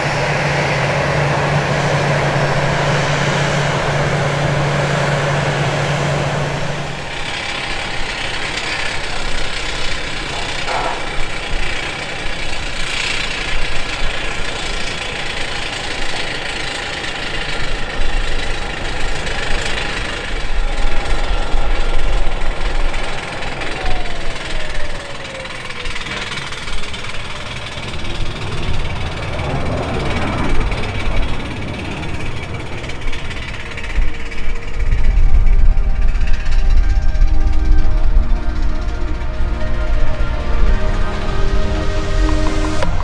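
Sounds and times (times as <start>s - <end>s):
jet engines spooling down: 0.0s - 43.0s
jet rolling with low hum: 0.0s - 43.0s
jet rumble with thin whine: 0.0s - 43.0s.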